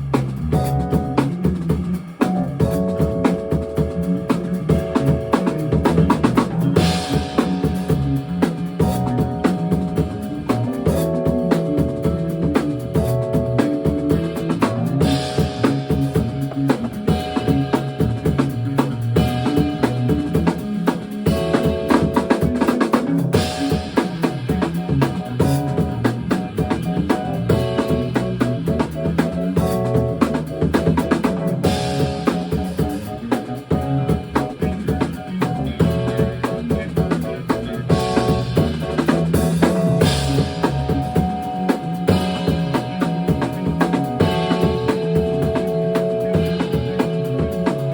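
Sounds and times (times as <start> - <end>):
drum kit groove: 0.0 - 47.9
electric bass: 0.0 - 47.9
held keyboard chords: 0.0 - 47.9.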